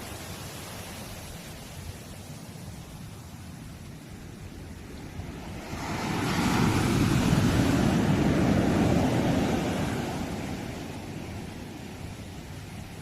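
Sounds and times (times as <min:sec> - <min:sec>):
sea waves washing up shore: 0:00.0 - 0:13.0.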